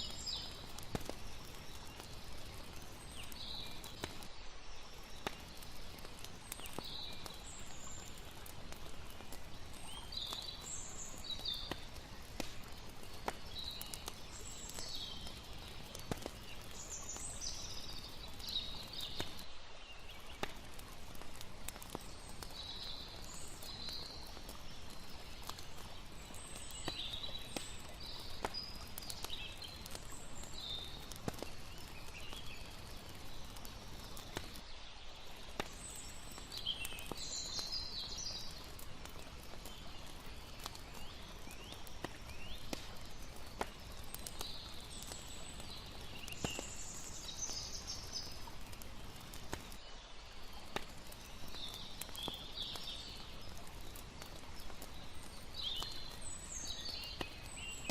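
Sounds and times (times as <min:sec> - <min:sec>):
campfire crackling: 0:00.0 - 0:57.9
flowing water: 0:00.0 - 0:57.9.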